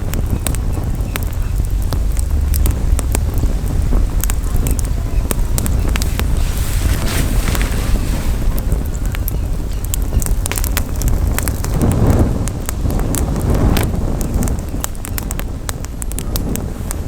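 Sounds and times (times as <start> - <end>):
campfire wood crackling: 0.0 - 17.0
wind buffeting microphone: 0.0 - 17.0.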